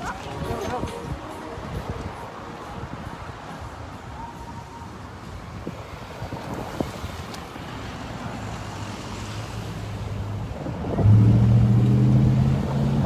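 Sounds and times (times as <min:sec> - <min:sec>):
cars and trucks passing: 0:00.0 - 0:13.0.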